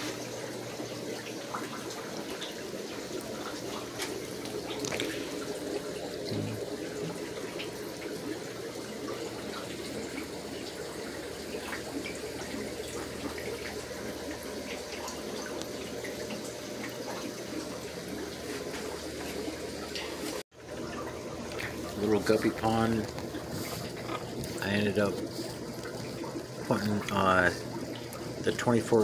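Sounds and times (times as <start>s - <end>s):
water trickling and dripping: 0.0s - 29.0s.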